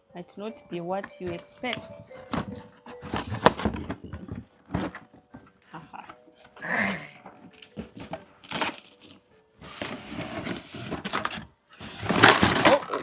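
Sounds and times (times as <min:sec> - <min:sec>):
packaging crackling and tearing: 0:01.3 - 0:05.6, 0:06.4 - 0:13.0.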